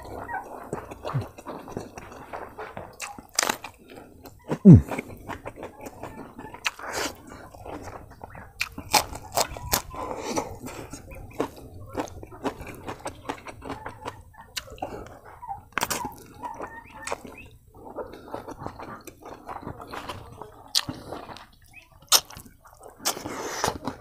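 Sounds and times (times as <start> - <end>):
chewing mouth clicks and smacks: 0.0 - 24.0.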